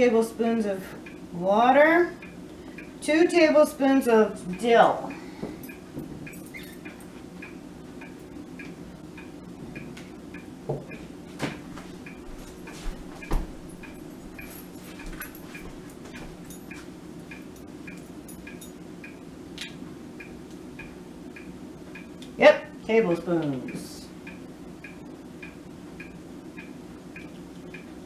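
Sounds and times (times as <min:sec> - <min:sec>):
low steady hum: 0:00.0 - 0:28.0
clock ticking: 0:01.0 - 0:01.2, 0:02.1 - 0:03.5, 0:04.3 - 0:11.0, 0:12.0 - 0:19.3, 0:20.2 - 0:28.0.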